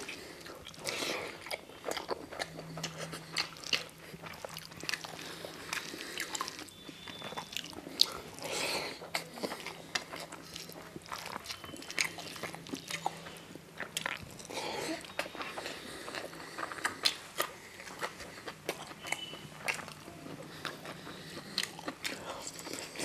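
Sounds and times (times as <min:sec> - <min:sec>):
person chewing and lip-smacking: 0:00.0 - 0:23.0.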